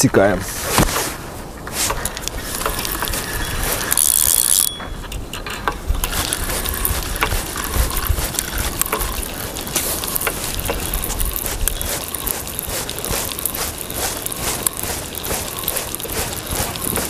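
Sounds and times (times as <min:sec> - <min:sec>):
wind rumbling on microphone: 0:00.0 - 0:17.0
fishing reel clicking: 0:01.8 - 0:17.0.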